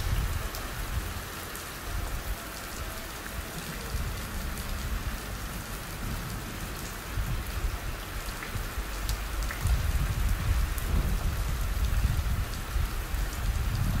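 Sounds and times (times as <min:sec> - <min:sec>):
rain falling on gravel: 0:00.0 - 0:14.0.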